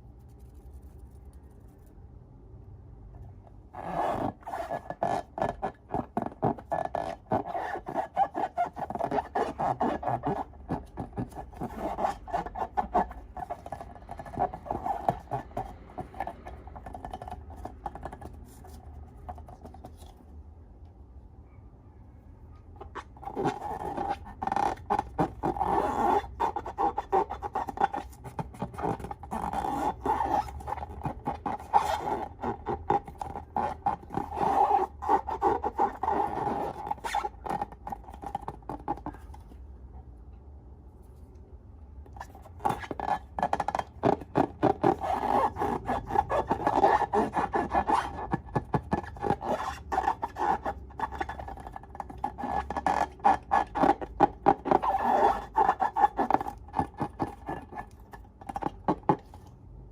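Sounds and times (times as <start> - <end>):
scraping and rubbing balloons: 3.4 - 20.3, 22.8 - 39.6, 42.1 - 59.9.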